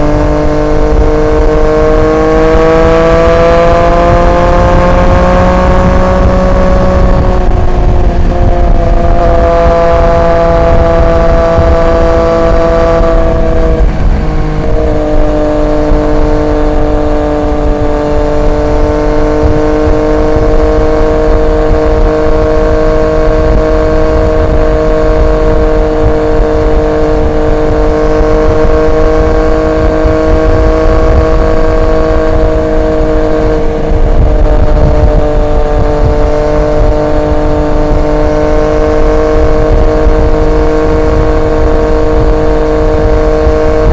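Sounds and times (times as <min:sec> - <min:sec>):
motorcycle engine cruising: 0:00.0 - 0:43.9
wind rumble: 0:00.0 - 0:43.9.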